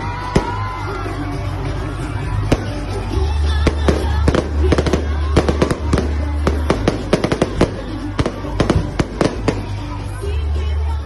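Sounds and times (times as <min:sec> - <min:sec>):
fireworks bangs and crackles: 0:00.0 - 0:10.5
music with low bass: 0:00.0 - 0:11.0.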